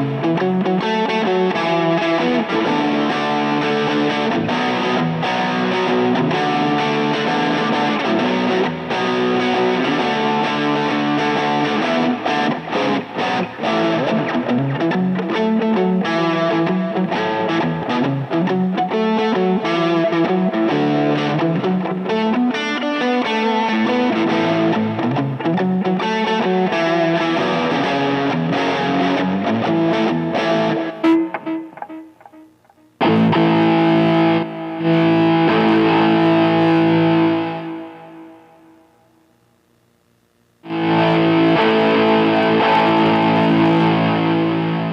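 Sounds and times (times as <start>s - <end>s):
distorted electric guitar chords: 0.0s - 44.9s.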